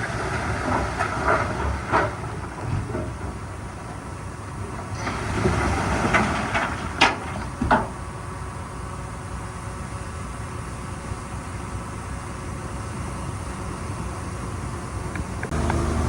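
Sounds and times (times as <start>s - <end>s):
diesel machinery running: 0.0s - 16.0s.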